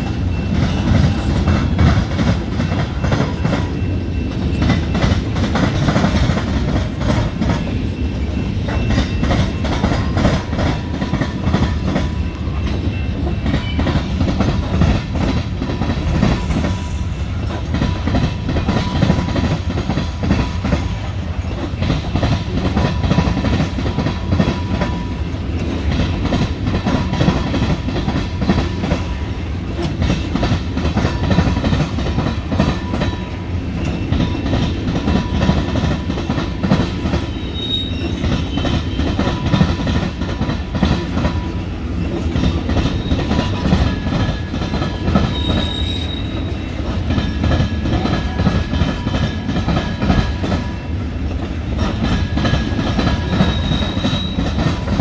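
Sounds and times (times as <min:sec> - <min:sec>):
freight train rumbling past: 0:00.0 - 0:55.0
steel wheels clattering on rail joints: 0:00.0 - 0:55.0.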